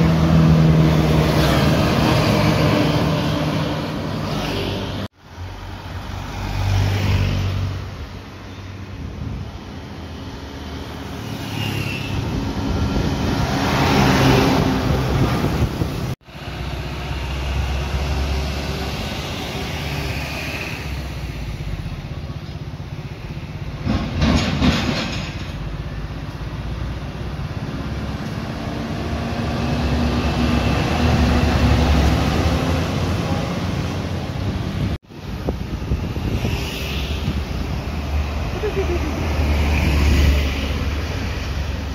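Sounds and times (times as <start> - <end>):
vehicles passing: 0.0 - 41.9.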